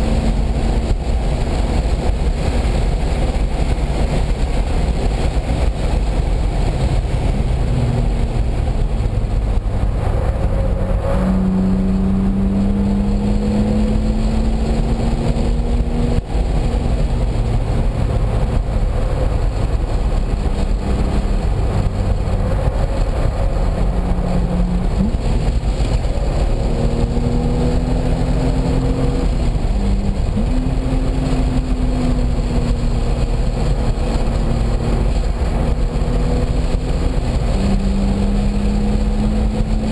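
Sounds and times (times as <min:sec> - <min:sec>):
race car engine accelerating: 0:00.0 - 0:39.9
wind and road noise: 0:00.0 - 0:39.9.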